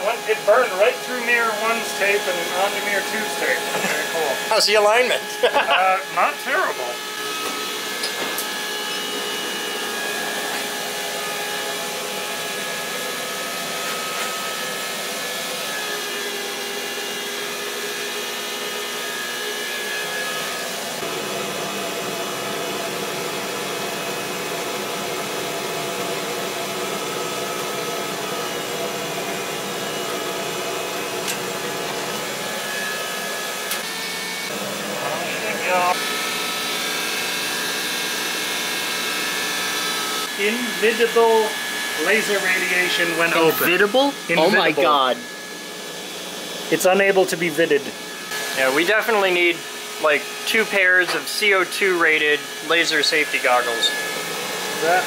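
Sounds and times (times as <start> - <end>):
water pump whirring and whining: 0.0 - 55.0.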